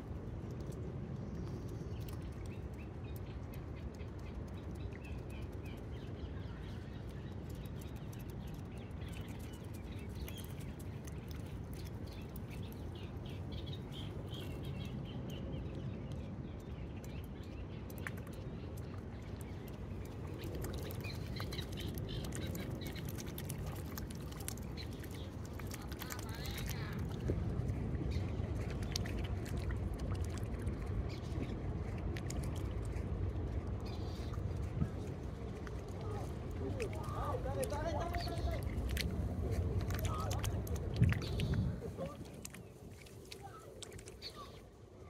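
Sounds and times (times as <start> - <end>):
low background rumble: 0.0 - 45.0
wild birds chirping: 1.7 - 27.4, 33.8 - 44.8.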